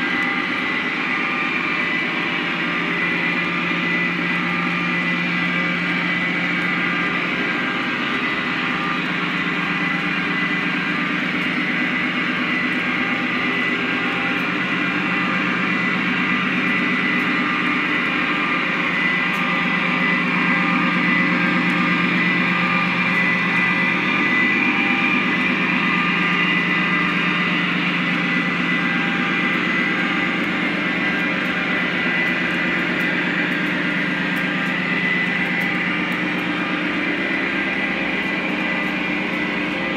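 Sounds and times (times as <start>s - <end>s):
model train rolling rumble: 0.0s - 39.9s
motor hum: 0.0s - 39.9s.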